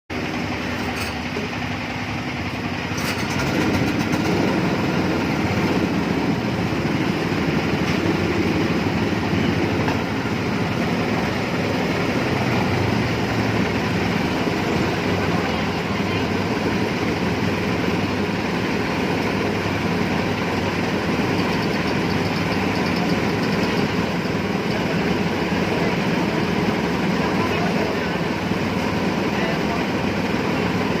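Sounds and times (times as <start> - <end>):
coconut grinding machine running: 0.1 - 31.0.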